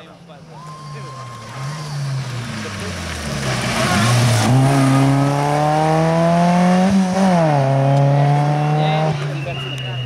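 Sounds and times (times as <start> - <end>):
rally car engine accelerating: 0.6 - 10.0.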